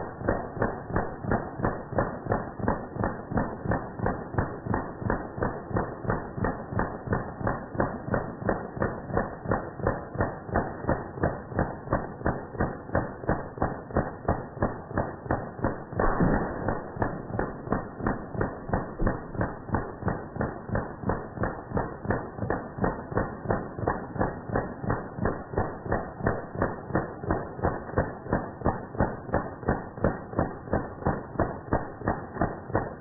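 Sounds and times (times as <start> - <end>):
slowed automatic gunfire: 0.0 - 33.0.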